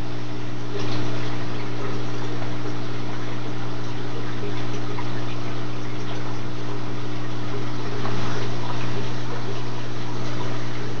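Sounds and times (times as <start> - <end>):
aquarium pumps humming: 0.0 - 11.0
water circulating: 0.0 - 11.0.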